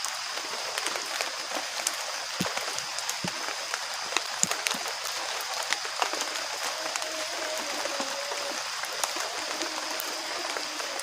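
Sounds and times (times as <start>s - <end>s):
sharp drips close by: 0.0s - 11.0s
steady rain falling: 0.0s - 11.0s.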